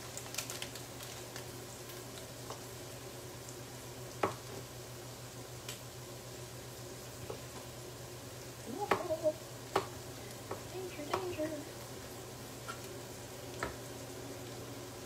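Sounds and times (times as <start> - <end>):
onion sizzling in a pan: 0.0 - 15.0.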